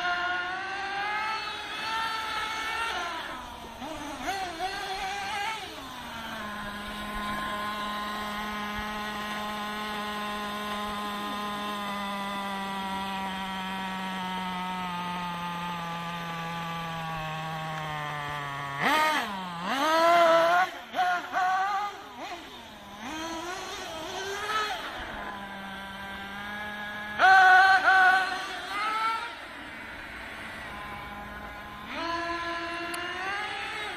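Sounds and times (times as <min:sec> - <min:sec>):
model engine idling and revving: 0:00.0 - 0:33.9.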